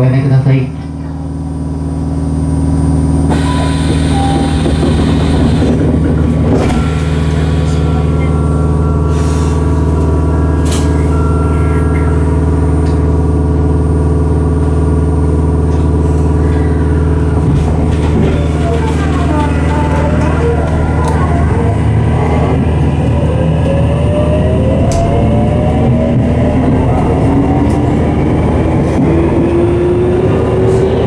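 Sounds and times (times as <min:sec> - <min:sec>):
electric train motor hum: 0:00.9 - 0:31.0
whining tones: 0:01.3 - 0:31.0.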